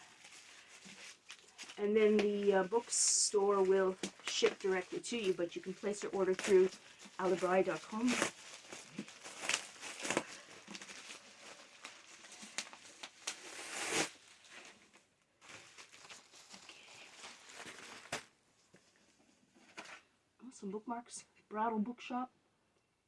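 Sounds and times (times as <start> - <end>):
paper packing rustling: 0.0 - 19.0.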